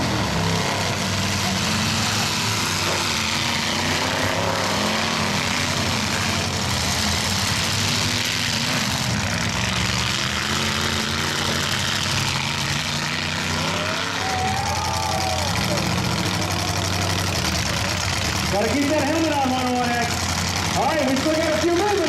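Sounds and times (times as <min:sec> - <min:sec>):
truck engines revving: 0:00.0 - 0:22.0.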